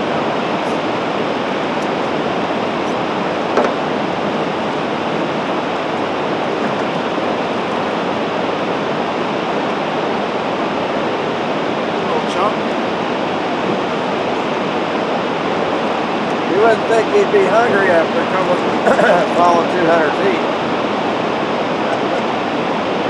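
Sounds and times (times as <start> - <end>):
water rushing through dam spillway: 0.0 - 23.0.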